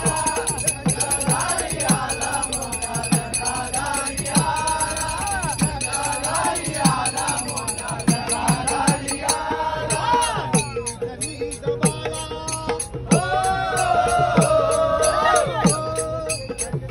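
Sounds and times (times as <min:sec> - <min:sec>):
drum beat: 0:00.0 - 0:16.9
jingling hand cymbals: 0:00.0 - 0:16.9
men singing together: 0:00.0 - 0:16.9.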